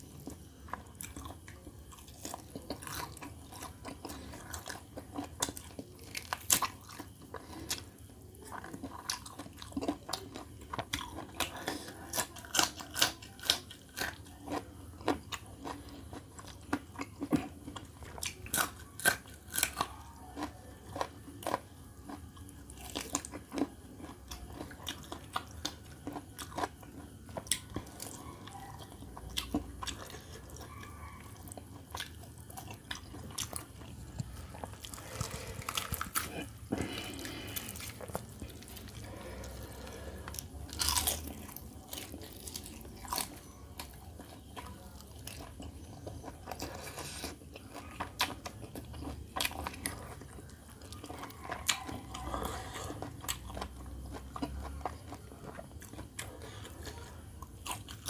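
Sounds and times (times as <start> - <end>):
close chewing and crunching: 0.0 - 58.0.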